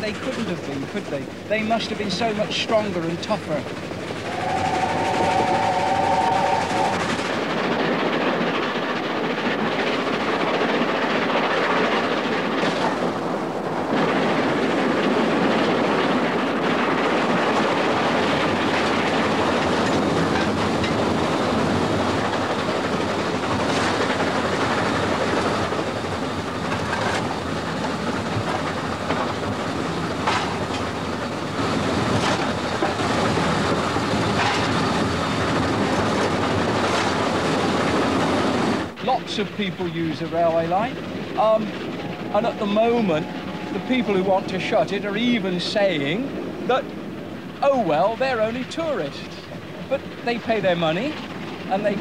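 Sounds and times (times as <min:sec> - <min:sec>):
train rumbling: 0:00.0 - 0:52.0
wheels clicking over rail joints: 0:00.0 - 0:52.0.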